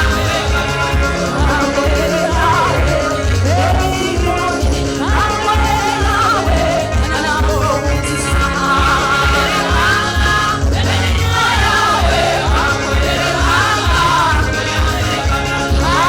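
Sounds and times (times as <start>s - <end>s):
steady bass beat: 0.0s - 16.0s
voices singing together: 0.0s - 16.0s.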